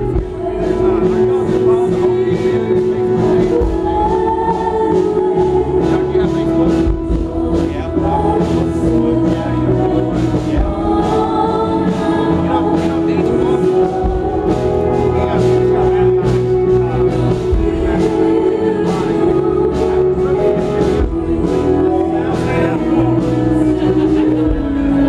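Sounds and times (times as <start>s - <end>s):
gospel worship music: 0.0s - 25.0s.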